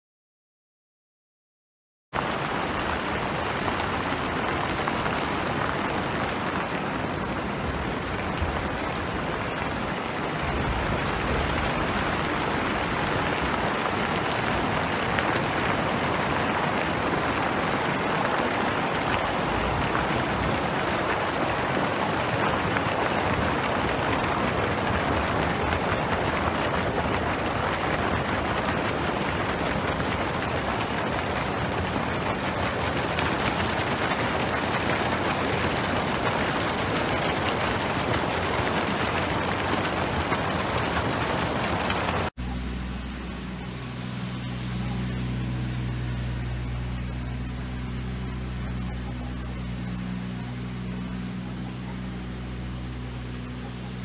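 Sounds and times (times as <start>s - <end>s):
fountain water jets splattering: 2.2s - 54.0s.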